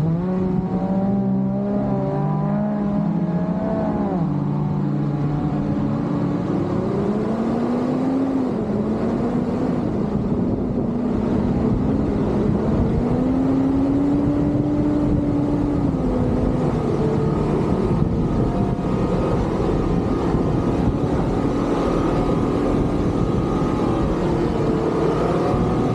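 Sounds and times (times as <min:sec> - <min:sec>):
car engine revving while driving: 0:00.0 - 0:25.9.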